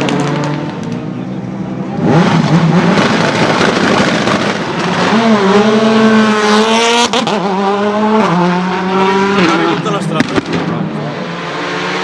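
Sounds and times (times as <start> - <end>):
rally car engine high-revving: 0.0 - 12.0.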